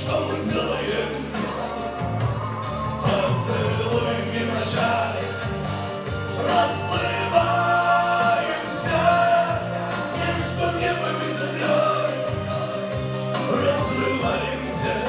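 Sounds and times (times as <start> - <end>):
man singing into a microphone: 0.0 - 2.2, 3.0 - 15.0
karaoke backing track: 0.0 - 15.0.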